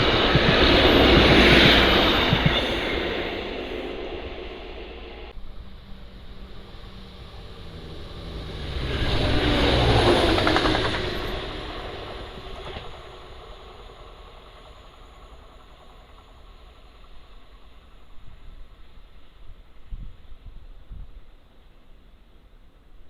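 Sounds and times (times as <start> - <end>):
train passing at speed: 0.0 - 22.6.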